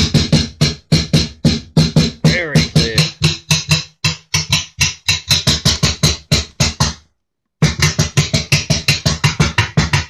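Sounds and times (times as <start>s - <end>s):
snare drum strikes: 0.0s - 7.0s, 7.6s - 10.0s.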